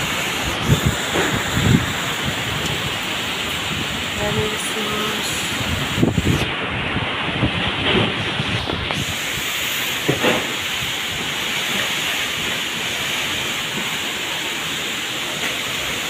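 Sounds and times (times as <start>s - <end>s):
heavy rain and wind: 0.0s - 16.0s.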